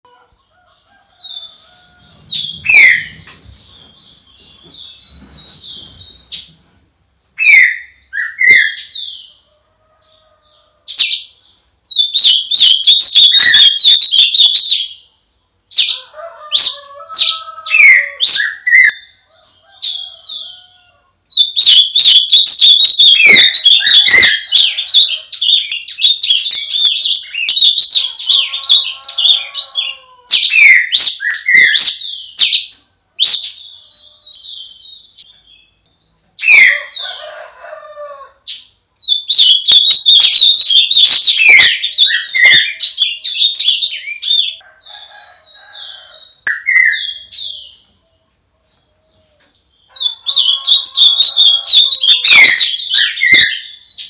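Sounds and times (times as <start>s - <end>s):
songbirds chirping and trilling: 0.1s - 54.0s.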